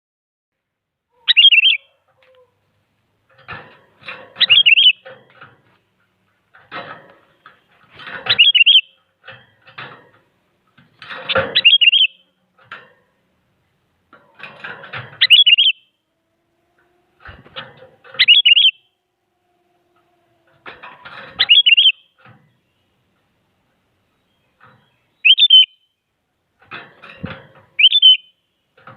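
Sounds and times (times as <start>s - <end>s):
scratchy rattling bird noises: 1.2s - 28.9s.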